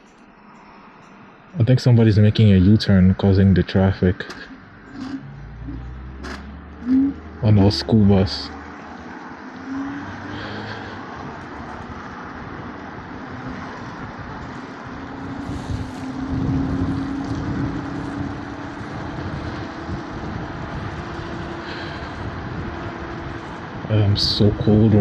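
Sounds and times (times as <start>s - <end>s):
street traffic: 0.0s - 25.0s
wind rumbling on microphone: 4.6s - 25.0s.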